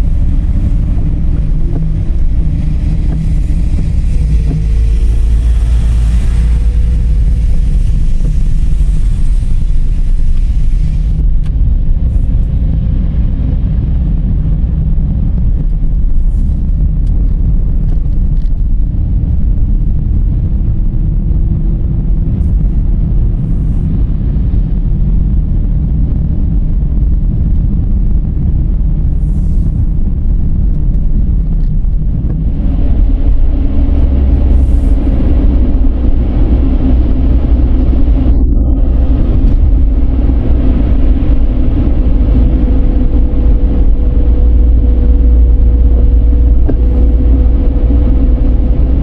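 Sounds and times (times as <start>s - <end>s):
car driving rumble: 0.0s - 49.0s.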